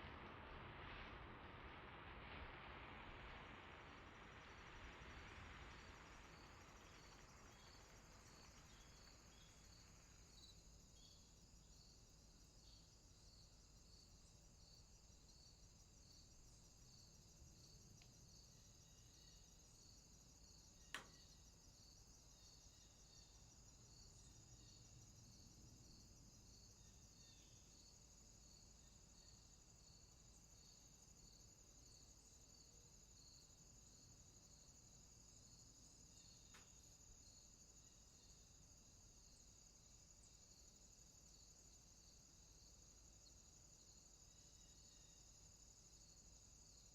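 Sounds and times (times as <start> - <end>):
soft hiss: 0.0 - 46.9
crickets chirping: 4.2 - 46.9.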